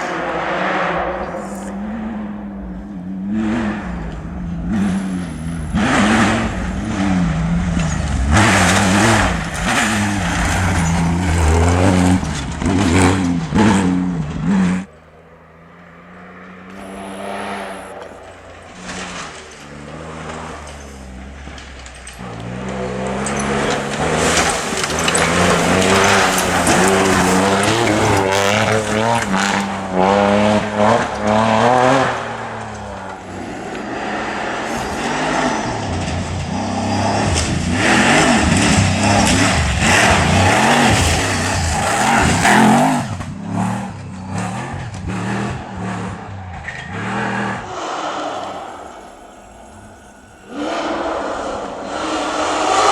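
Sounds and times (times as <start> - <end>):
car engines revving hard: 0.0 - 52.9.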